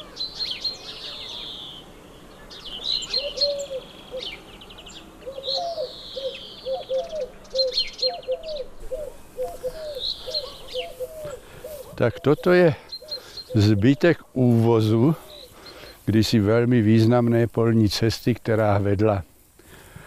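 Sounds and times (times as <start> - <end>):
songbirds chirping and trilling: 0.0 - 20.0.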